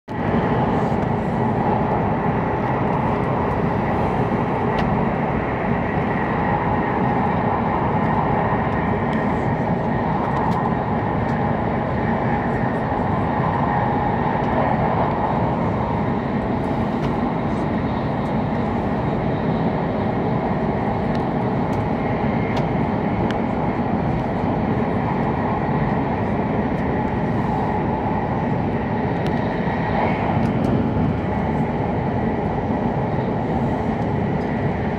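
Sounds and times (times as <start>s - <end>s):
train running noise from inside: 0.1s - 34.9s.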